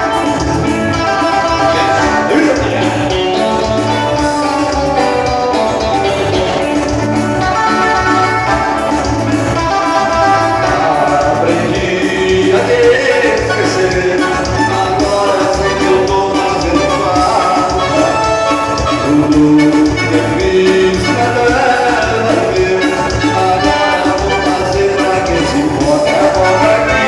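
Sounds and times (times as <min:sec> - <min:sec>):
bass beat: 0:00.0 - 0:27.0
live band playing: 0:00.0 - 0:27.0.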